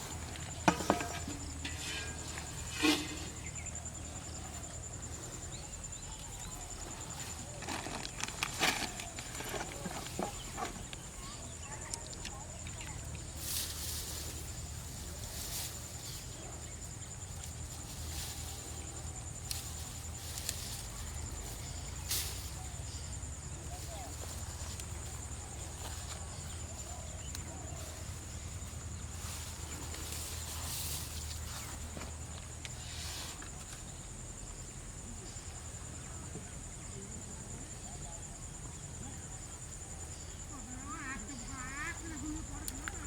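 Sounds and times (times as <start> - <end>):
high-pitched insect trill: 0.0 - 43.0.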